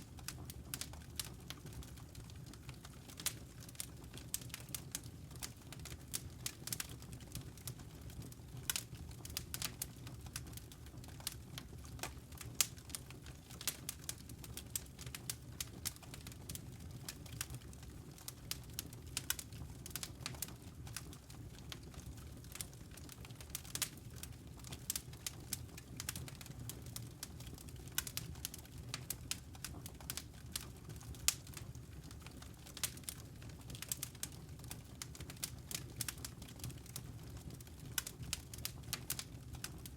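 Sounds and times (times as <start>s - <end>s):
campfire wood crackling and popping: 0.0s - 39.9s.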